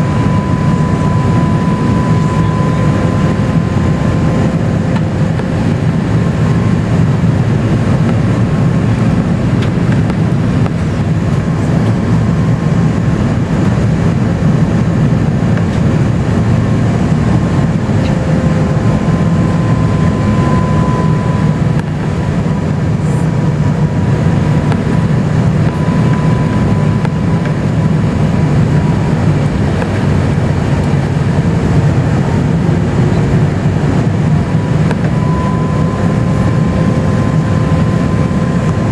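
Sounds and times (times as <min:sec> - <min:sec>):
faint engine whine: 0:00.0 - 0:38.9
jet engine rumble in cabin: 0:00.0 - 0:38.9.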